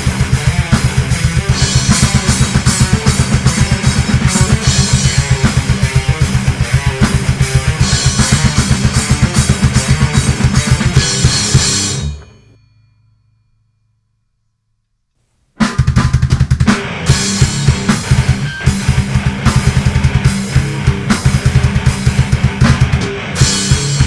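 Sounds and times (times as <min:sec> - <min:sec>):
fast kick-drum pulse: 0:00.0 - 0:11.8, 0:15.6 - 0:24.0
distorted guitar: 0:00.0 - 0:12.7, 0:15.6 - 0:24.0.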